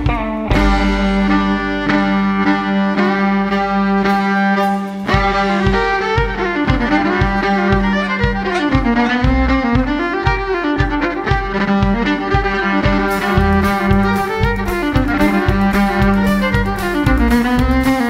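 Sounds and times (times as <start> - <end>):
fiddle melody: 0.0 - 18.0
live band playing: 0.0 - 18.0
steady low beat: 0.0 - 18.0.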